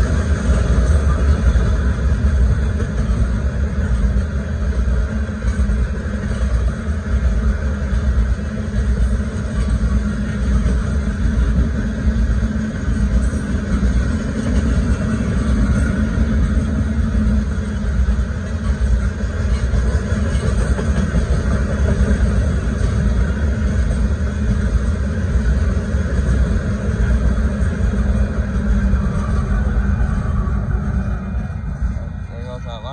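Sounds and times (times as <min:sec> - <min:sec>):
freight train wheels rumbling: 0:00.0 - 0:32.9.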